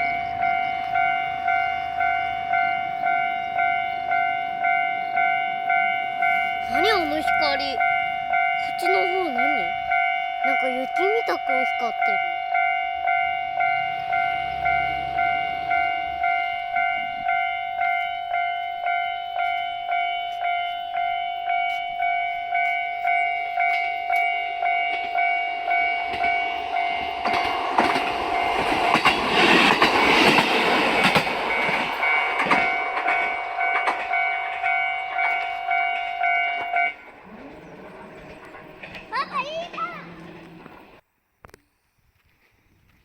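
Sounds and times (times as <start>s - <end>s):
level crossing warning bell: 0.0s - 41.0s
train passing with clattering: 0.0s - 41.0s.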